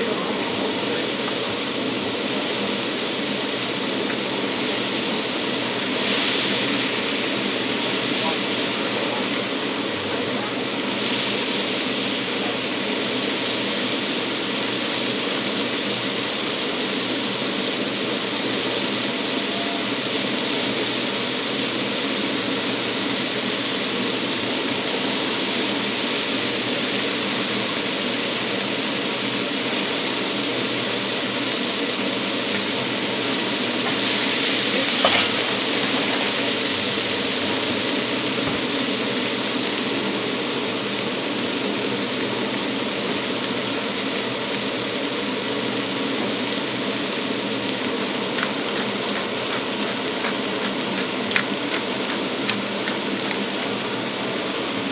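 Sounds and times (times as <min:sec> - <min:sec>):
steak sizzling on a griddle: 0:00.0 - 0:54.9.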